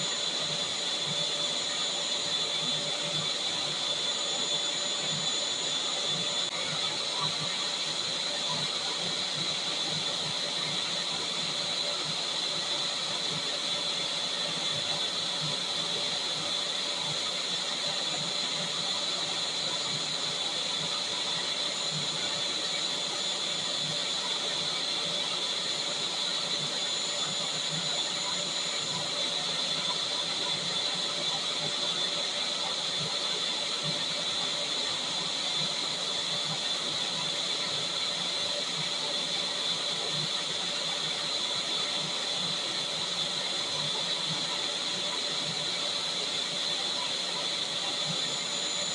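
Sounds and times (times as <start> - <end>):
vacuum cleaner motor running: 0.0 - 48.9.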